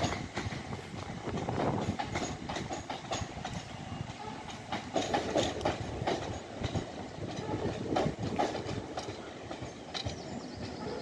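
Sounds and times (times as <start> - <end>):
train rumble: 0.0 - 11.0
train wheels clattering over rail joints: 0.0 - 11.0.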